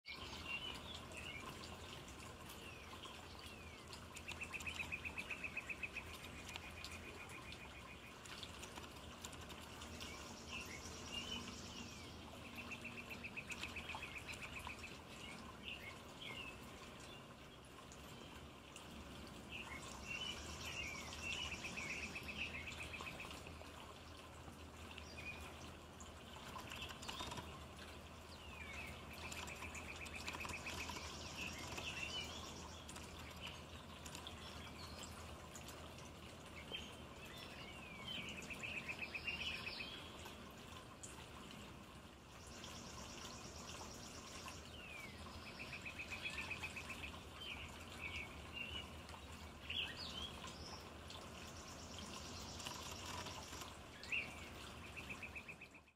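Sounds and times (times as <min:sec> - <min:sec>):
water trickling from fountain: 0:00.0 - 0:55.9
songbirds chirping and trilling: 0:00.1 - 0:55.9.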